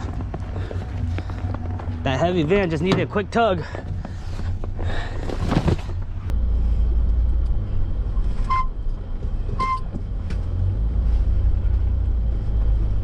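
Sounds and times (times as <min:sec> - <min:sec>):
truck engine rumbling on snow: 0:00.0 - 0:13.0.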